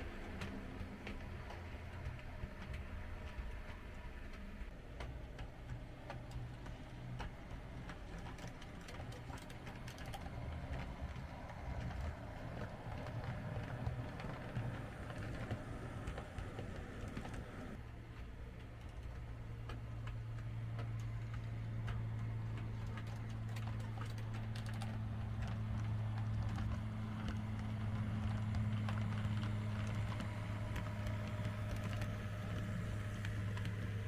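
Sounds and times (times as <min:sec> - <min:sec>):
model train wheels clicking: 0:00.0 - 0:34.0.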